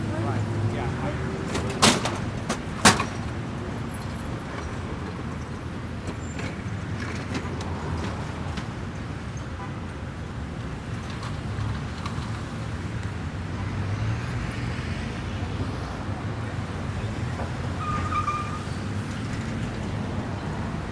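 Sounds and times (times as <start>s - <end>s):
passing cars: 0.0s - 20.9s.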